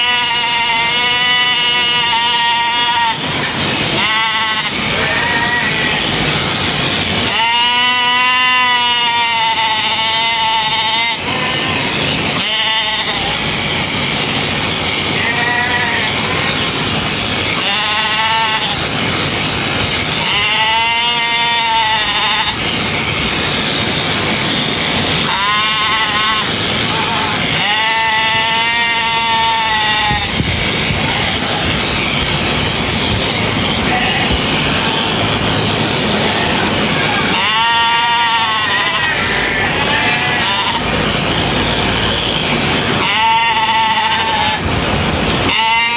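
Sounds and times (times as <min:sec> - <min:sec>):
sheep bleating: 0:00.0 - 0:03.3, 0:04.0 - 0:14.0, 0:14.7 - 0:19.5, 0:20.1 - 0:23.2, 0:25.2 - 0:44.6, 0:45.4 - 0:45.9
electric clippers running: 0:00.0 - 0:45.9.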